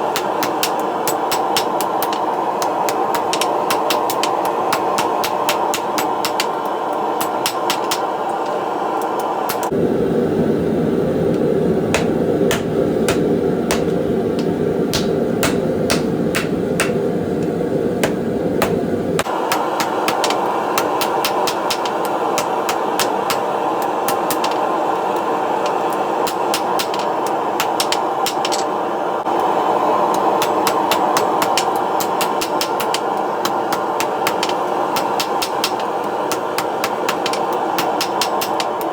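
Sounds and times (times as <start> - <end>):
hammer striking hot steel: 0.0 - 9.8, 11.3 - 38.9.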